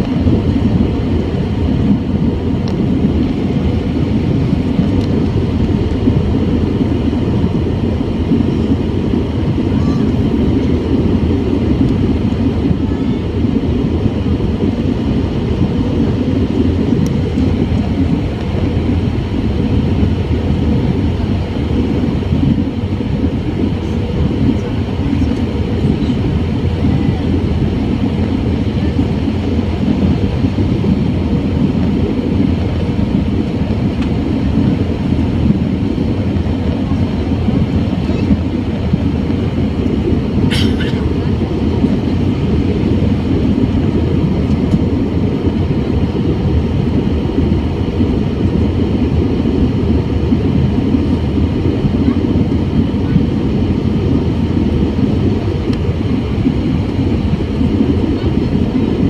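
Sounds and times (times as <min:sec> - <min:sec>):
airplane cabin engine rumble: 0:00.0 - 0:59.0
faint steady hum: 0:00.0 - 0:59.0.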